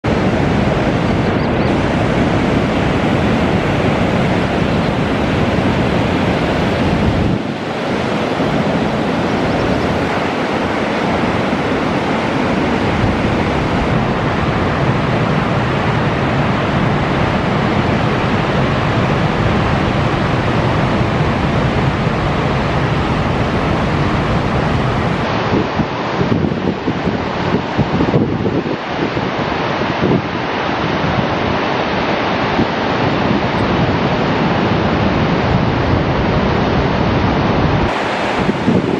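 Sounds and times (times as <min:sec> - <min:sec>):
ocean waves breaking: 0:00.0 - 0:38.9
wind buffeting microphone: 0:00.0 - 0:38.9.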